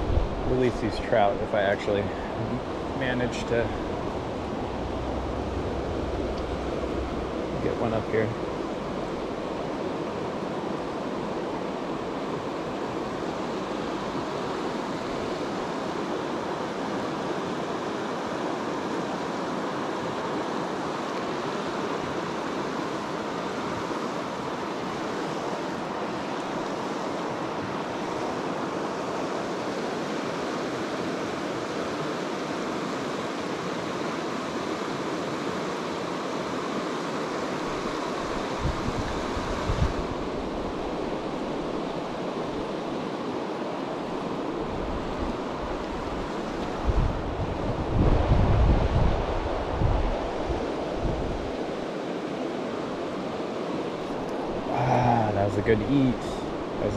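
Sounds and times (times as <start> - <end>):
stream rushing over boulders: 0.0 - 56.9.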